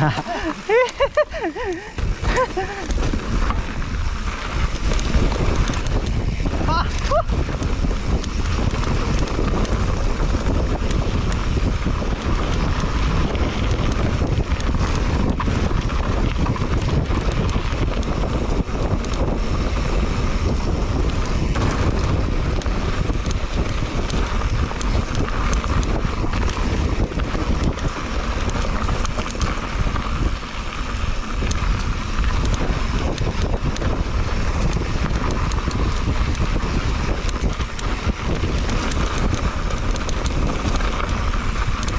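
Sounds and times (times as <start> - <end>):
bike knocks and rattles: 0.0 - 41.9
tyre noise on dirt: 0.0 - 41.9
wind buffeting microphone: 0.0 - 41.9.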